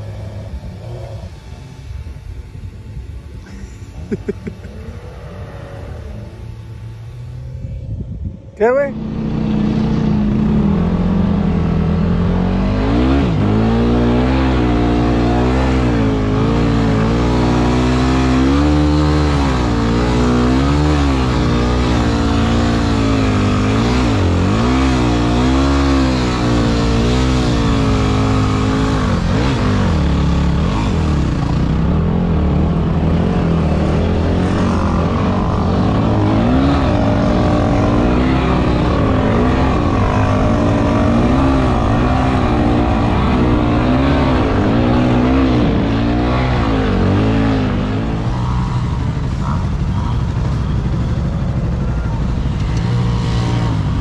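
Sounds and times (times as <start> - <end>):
off-road vehicle engine revving: 0.0 - 2.8, 3.4 - 7.7, 8.5 - 54.0.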